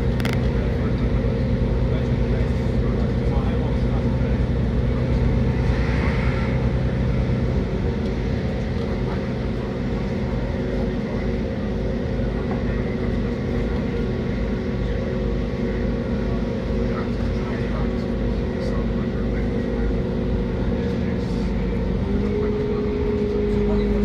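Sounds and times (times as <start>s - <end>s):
low hum with steady tones: 0.0s - 24.0s
train wheels rumbling on track: 0.0s - 24.0s.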